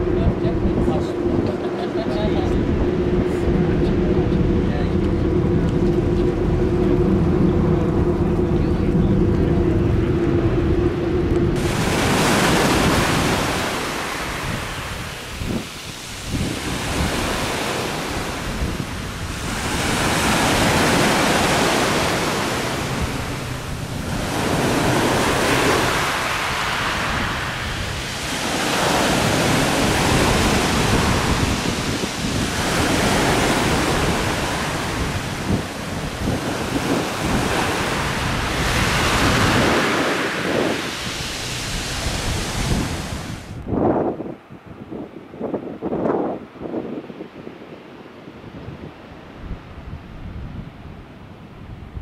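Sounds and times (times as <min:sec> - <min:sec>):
sea waves breaking: 0:00.0 - 0:51.6
wind rumbling on microphone: 0:00.0 - 0:52.0.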